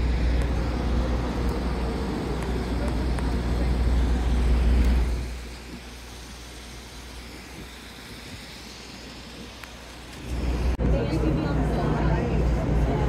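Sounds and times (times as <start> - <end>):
city background hum: 0.0 - 13.0
heavy low traffic rumble: 0.0 - 13.0.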